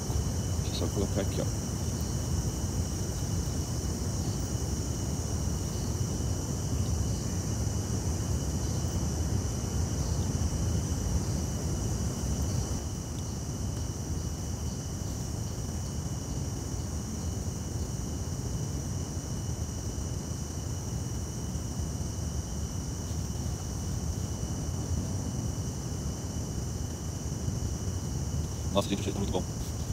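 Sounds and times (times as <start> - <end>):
night insects buzzing: 0.0 - 29.9.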